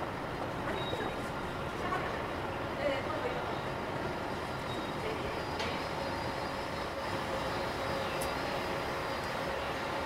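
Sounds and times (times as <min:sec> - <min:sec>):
escalator mechanical rumble: 0:00.0 - 0:10.0.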